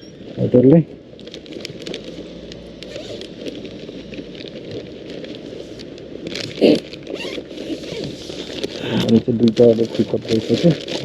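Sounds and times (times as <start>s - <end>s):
bag rustling and scraping: 1.3s - 11.0s.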